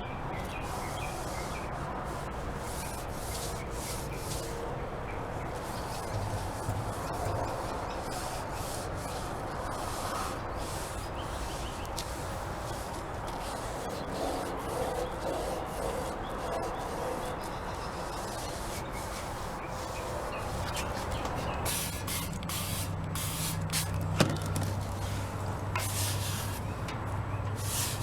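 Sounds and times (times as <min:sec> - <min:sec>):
fan blades being rubbed clean: 0:00.2 - 0:28.0.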